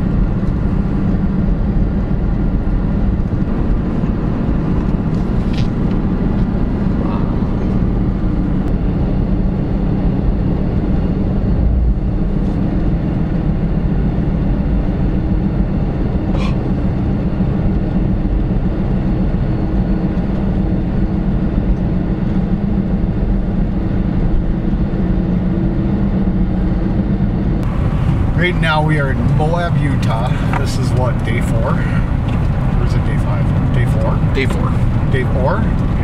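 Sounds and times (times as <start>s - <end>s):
car engine: 0.0s - 36.0s
tyre road noise: 0.0s - 36.0s.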